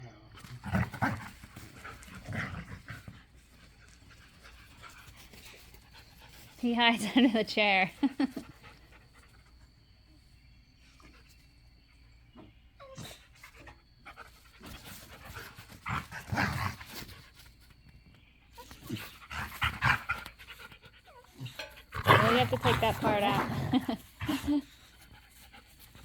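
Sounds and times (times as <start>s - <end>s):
dogs panting and playing: 0.3s - 26.0s.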